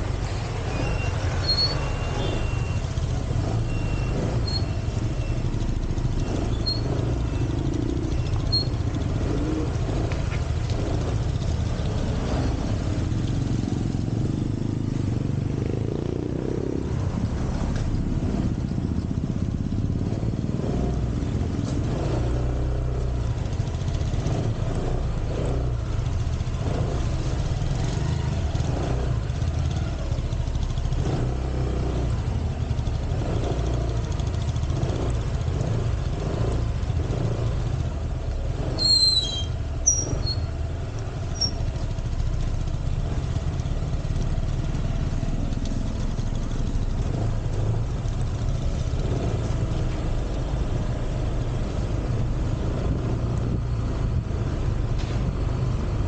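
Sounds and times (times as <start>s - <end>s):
motorcycle engine low rumble: 0.0s - 56.0s.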